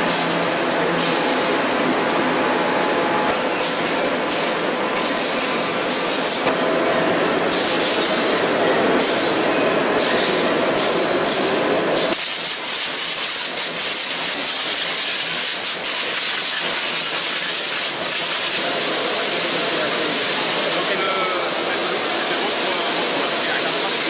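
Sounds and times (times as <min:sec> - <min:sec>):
conveyor machinery running: 0:00.0 - 0:24.0.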